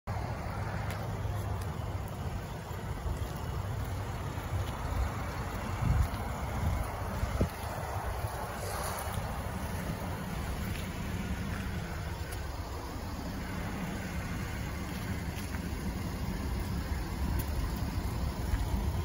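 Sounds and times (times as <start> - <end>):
wind buffeting microphone: 0.5 - 19.0.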